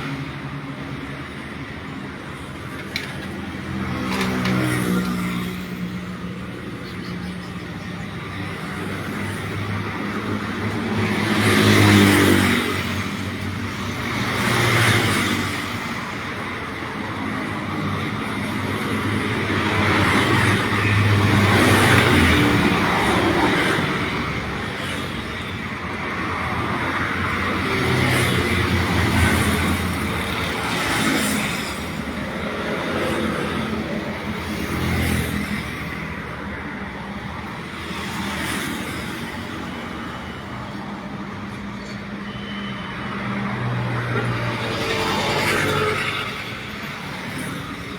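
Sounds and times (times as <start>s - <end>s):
vehicles passing: 0.0s - 47.9s.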